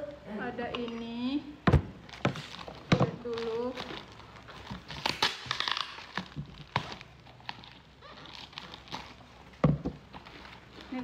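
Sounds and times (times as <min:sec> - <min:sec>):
cardboard and plastic wrap crinkling: 0:02.0 - 0:11.0.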